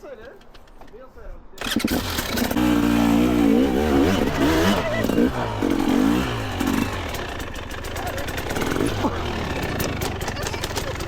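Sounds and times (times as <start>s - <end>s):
dirt bike engine revving: 1.6s - 11.0s.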